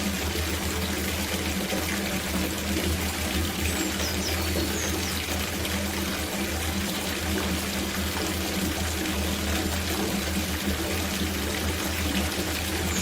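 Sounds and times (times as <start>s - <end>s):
tap water filling a bathtub: 0.0s - 13.0s.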